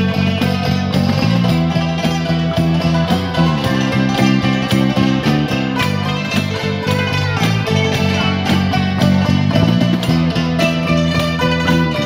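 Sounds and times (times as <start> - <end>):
electric bass guitar: 0.0 - 12.0
hammered dulcimer melody: 0.0 - 12.0.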